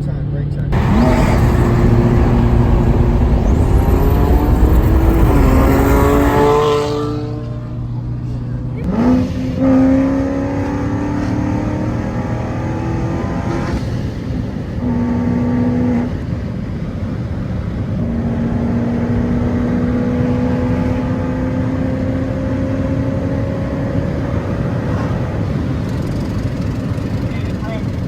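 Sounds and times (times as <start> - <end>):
car engines accelerating: 0.0 - 28.0.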